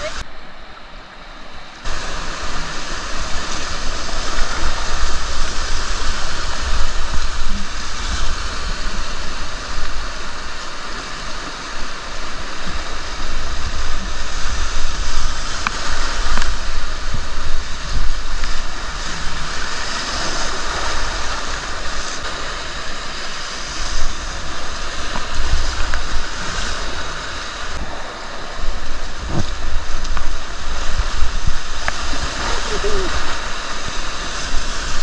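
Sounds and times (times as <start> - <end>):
rushing river water: 0.0 - 35.0
wind buffeting microphone: 1.8 - 35.0.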